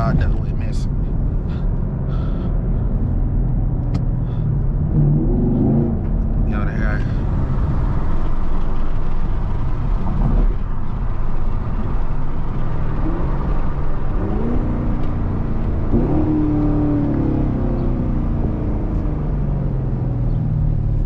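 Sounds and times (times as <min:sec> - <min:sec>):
car engine running: 0:00.0 - 0:21.0
road rumble: 0:00.0 - 0:21.0.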